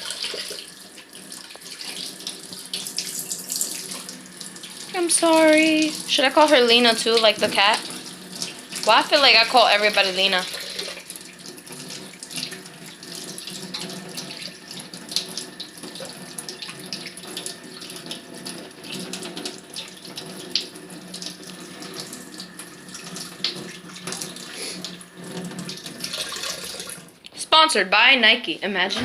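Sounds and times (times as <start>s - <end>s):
tap water running into sink: 0.0s - 27.2s.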